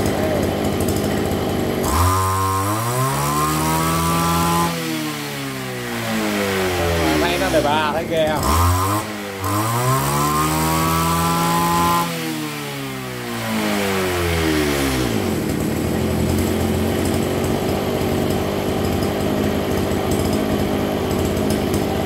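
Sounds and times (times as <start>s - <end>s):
brush cutter engine revving and idling: 0.0s - 22.0s.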